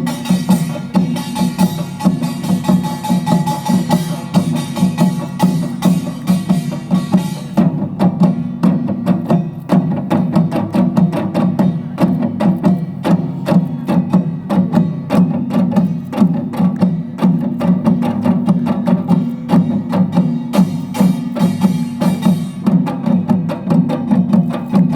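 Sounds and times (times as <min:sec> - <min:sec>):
drums playing fast rhythm: 0:00.0 - 0:24.9.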